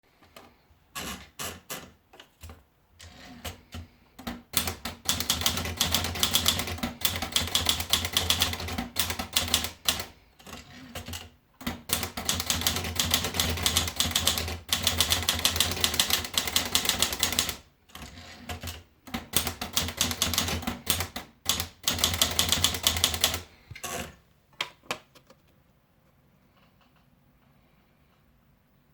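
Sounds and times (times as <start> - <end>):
manual typewriter typing: 1.0 - 24.2.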